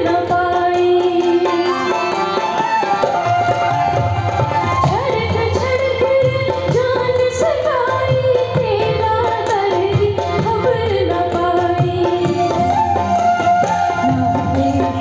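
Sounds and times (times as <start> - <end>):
hand drum: 0.0 - 15.0
tabla: 0.0 - 15.0.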